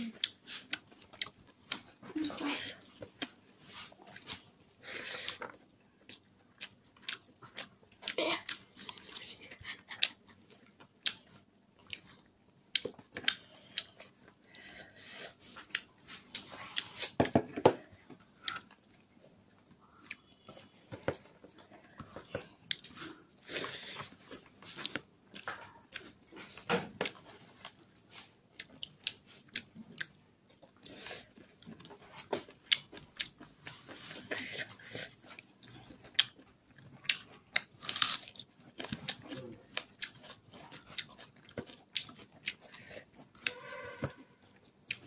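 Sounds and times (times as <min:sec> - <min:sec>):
person chewing and smacking: 0:00.1 - 0:02.1, 0:02.8 - 0:09.2, 0:09.8 - 0:14.9, 0:15.6 - 0:43.6, 0:44.4 - 0:45.0.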